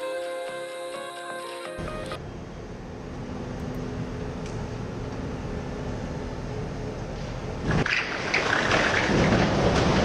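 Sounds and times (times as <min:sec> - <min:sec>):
diesel engine running: 0:01.8 - 0:10.0.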